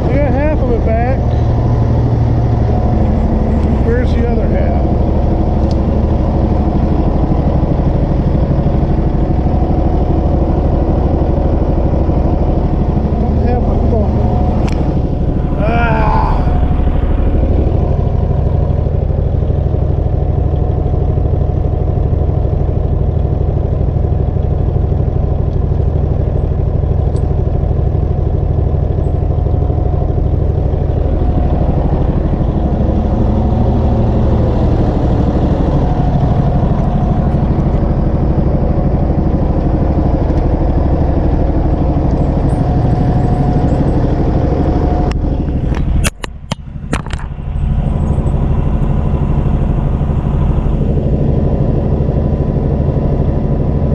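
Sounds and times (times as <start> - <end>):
wood chipper engine running: 0.0 - 53.9.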